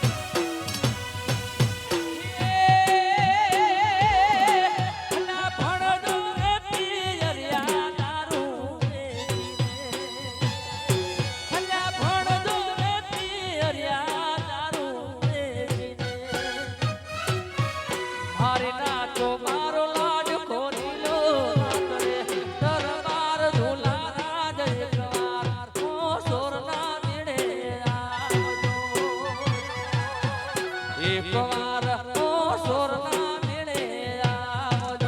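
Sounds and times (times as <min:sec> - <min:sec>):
steady drum beat: 0:00.0 - 0:35.0.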